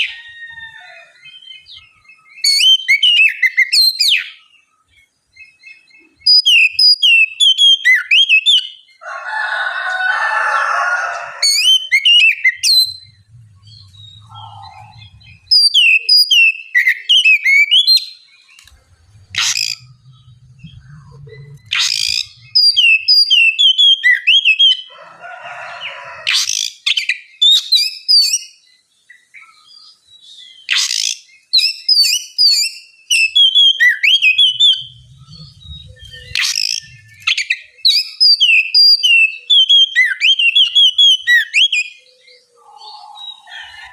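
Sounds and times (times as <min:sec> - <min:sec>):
bird singing whistled notes: 0:01.1 - 0:09.0, 0:11.5 - 0:24.9, 0:26.3 - 0:43.9.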